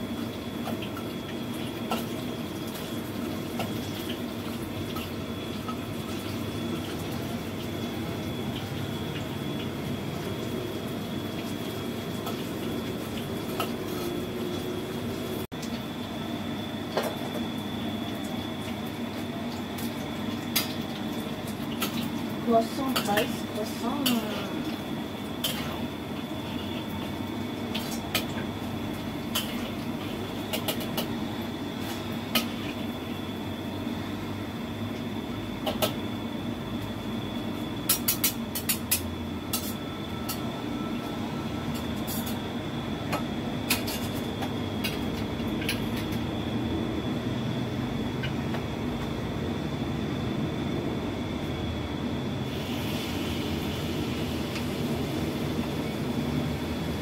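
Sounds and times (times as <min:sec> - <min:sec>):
low cooking hum: 0:00.0 - 0:57.0.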